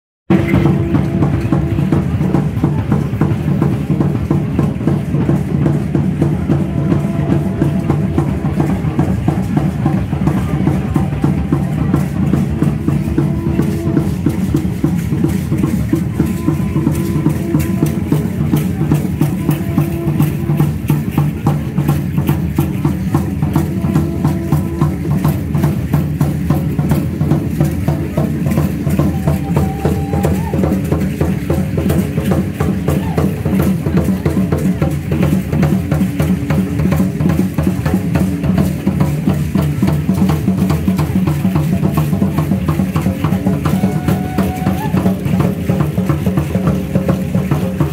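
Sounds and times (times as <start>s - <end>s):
large drum beating dance rhythm: 0.3s - 47.9s.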